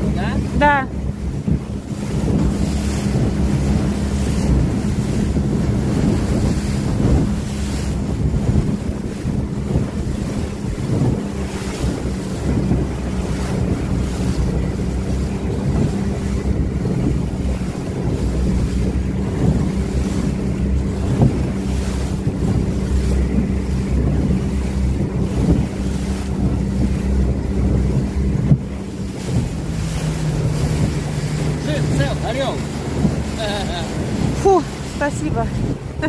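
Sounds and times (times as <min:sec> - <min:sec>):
outboard motor running: 0:00.0 - 0:36.0
water slapping hull: 0:00.0 - 0:36.0
wind buffeting microphone: 0:00.0 - 0:36.0.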